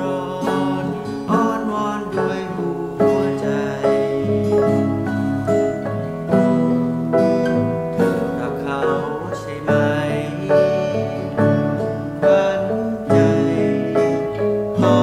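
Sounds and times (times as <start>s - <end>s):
electric guitar: 0.0s - 15.0s
electronic keyboard: 0.0s - 15.0s
strummed acoustic guitar: 0.0s - 15.0s.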